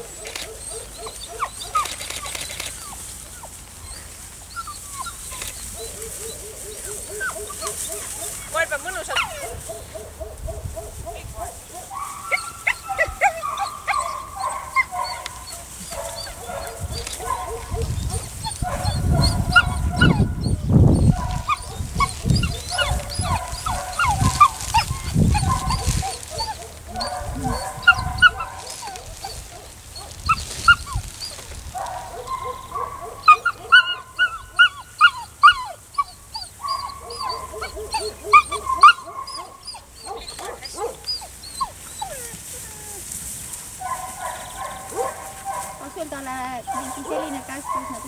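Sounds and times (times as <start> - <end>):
dog barking and yelping: 0.0 - 43.1, 43.8 - 48.0.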